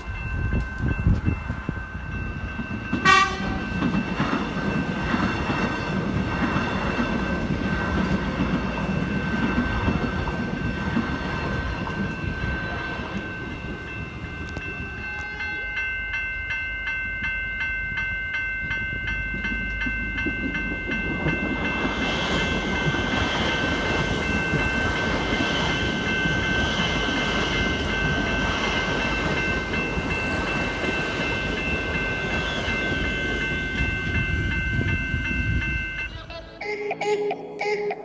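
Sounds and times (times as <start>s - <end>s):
crossing warning bells ringing: 0.0s - 38.0s
train rumble: 0.0s - 38.0s.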